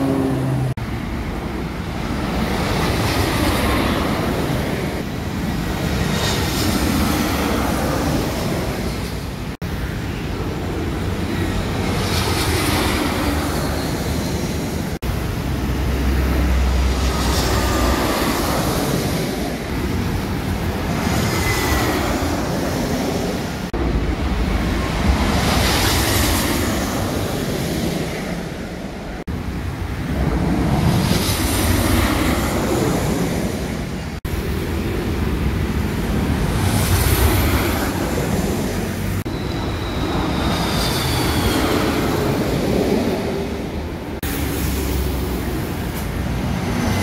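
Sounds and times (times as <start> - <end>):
road traffic passing: 0.0 - 47.0.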